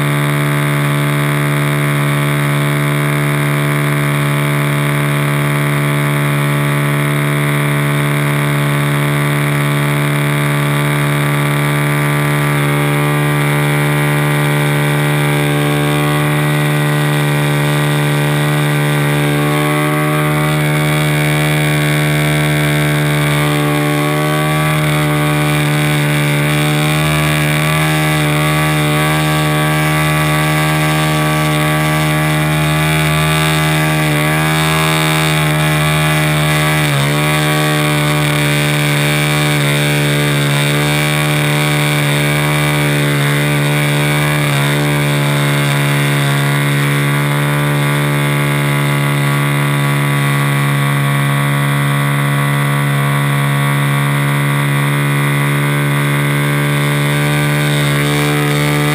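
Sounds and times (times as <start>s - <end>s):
model airplane motor and propeller: 0.0s - 58.9s.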